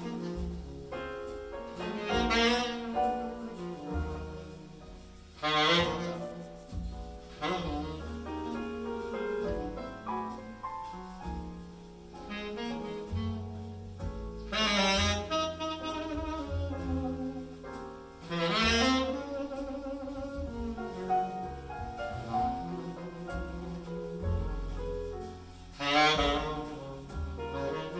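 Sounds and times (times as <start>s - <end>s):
bass line: 0.0s - 27.9s
jazz saxophone music: 0.0s - 27.9s.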